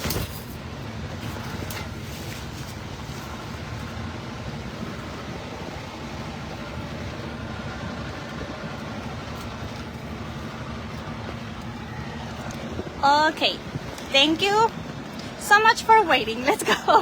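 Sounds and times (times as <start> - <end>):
low constant hum: 0.0 - 17.0
traffic in the rain: 0.0 - 17.0.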